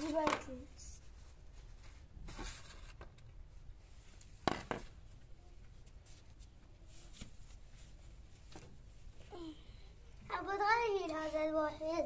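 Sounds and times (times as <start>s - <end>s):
quiet handling noises: 0.0s - 10.3s.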